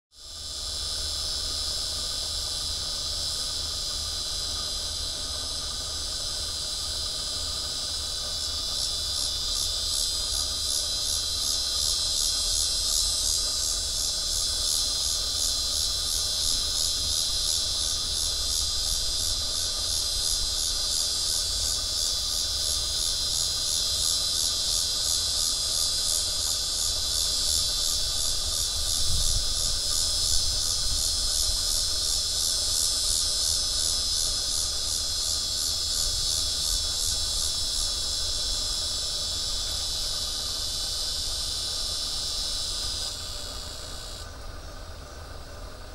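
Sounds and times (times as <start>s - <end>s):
cicada buzzing: 0.1s - 45.9s.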